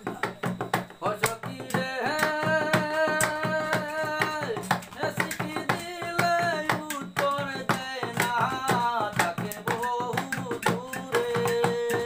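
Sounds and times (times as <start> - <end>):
hands drumming on wooden table: 0.0 - 12.0
man singing unaccompanied: 0.0 - 12.0.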